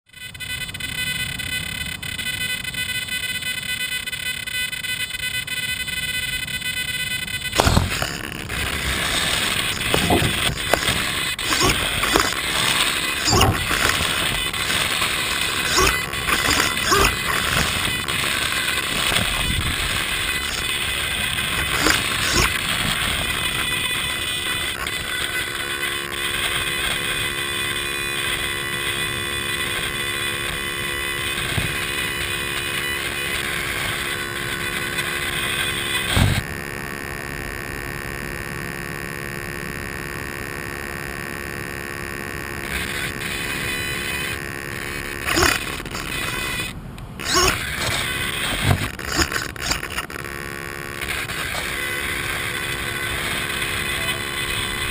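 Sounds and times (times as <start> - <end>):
electric motor and gears whining: 0.0 - 54.9.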